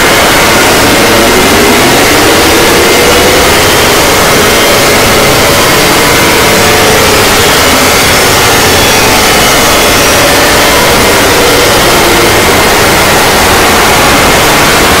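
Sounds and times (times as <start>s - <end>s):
distorted alarm static: 0.0s - 15.0s.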